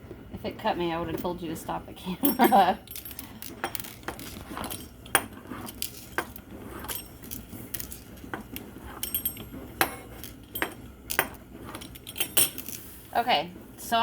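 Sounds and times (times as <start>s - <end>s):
utensils clinking on dishes: 1.0s - 13.0s.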